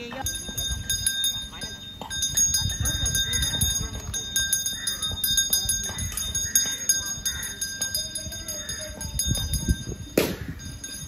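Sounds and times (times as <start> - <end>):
metal bells ringing: 0.0 - 11.0.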